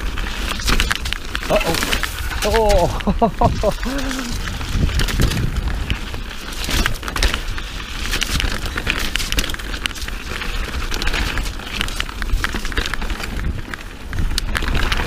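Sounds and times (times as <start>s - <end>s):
bike rattling and clattering: 0.0s - 15.0s
bike tyres crunching on dirt: 0.0s - 15.0s.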